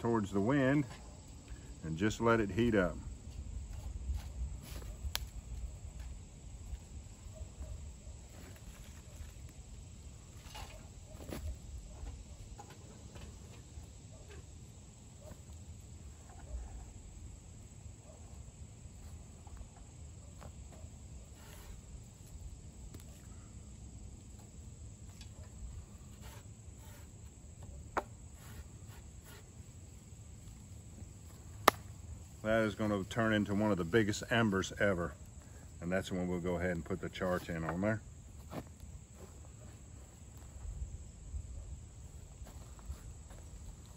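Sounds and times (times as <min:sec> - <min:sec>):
faint insect drone: 0:00.0 - 0:43.9.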